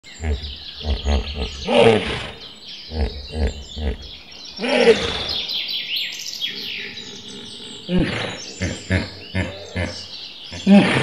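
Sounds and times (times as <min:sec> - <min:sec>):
high falling bird chirps: 0:00.0 - 0:11.0
deep pulsing animal grunts: 0:00.1 - 0:05.5, 0:06.5 - 0:11.0
loud bellowing animal call: 0:00.1 - 0:05.5, 0:06.5 - 0:11.0.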